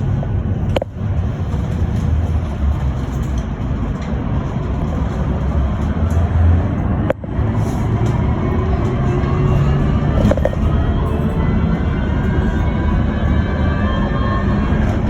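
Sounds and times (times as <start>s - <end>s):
tyre and road rumble: 0.0s - 15.0s.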